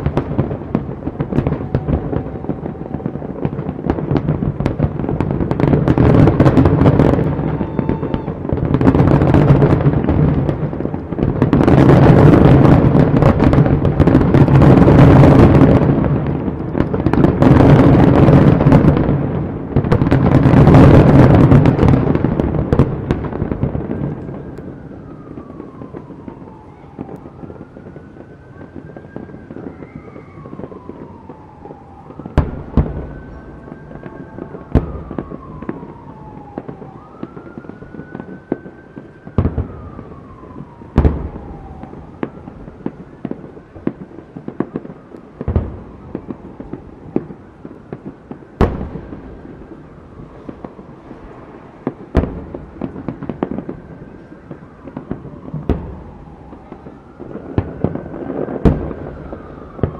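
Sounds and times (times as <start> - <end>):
fireworks booming: 0.0 - 59.9
fireworks rumble and crackle: 0.0 - 59.9
siren wailing: 0.0 - 59.9.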